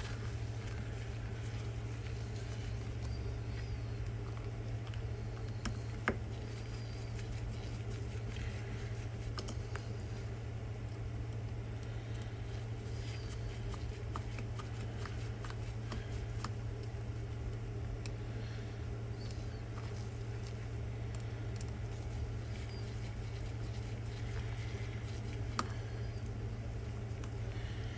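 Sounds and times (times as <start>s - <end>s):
low hum: 0.0s - 27.9s.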